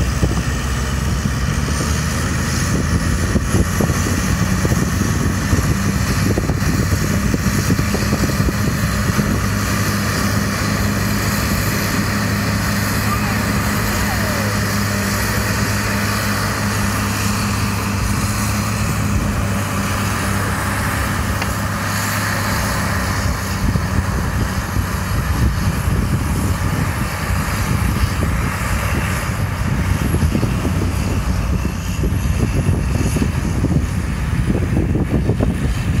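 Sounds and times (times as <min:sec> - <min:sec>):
tractor diesel engine running: 0:00.0 - 0:36.0
wind buffeting microphone: 0:00.0 - 0:36.0.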